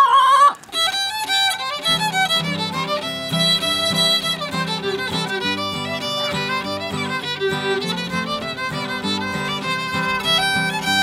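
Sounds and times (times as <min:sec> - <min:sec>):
fiddle music: 0:00.6 - 0:11.0
low accompanying notes: 0:00.8 - 0:11.0.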